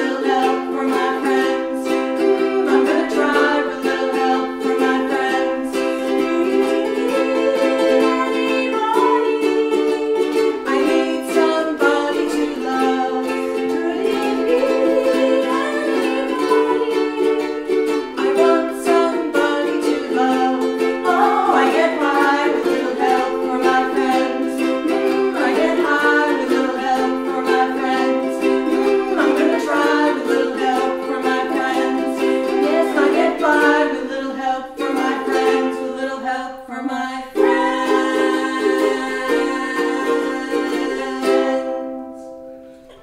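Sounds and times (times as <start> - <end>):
women singing a duet: 0.0 - 42.4
ukuleles strumming: 0.0 - 43.0.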